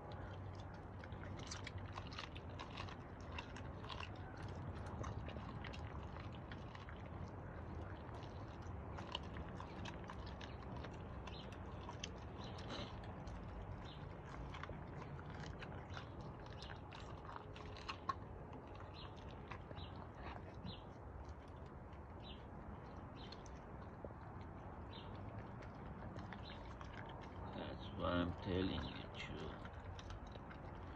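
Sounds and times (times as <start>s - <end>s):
dog chewing meat and bone: 0.0s - 30.9s.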